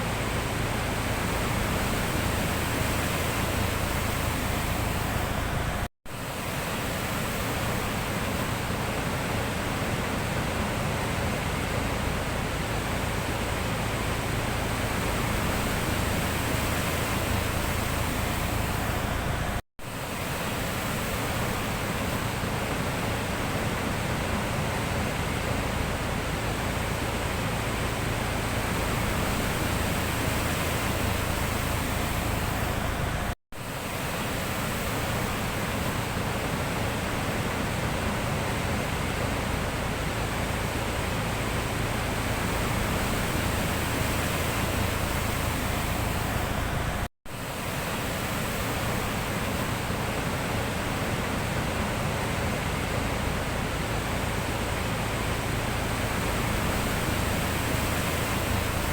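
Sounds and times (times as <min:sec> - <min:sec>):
sea surf washing: 0:00.0 - 0:58.9.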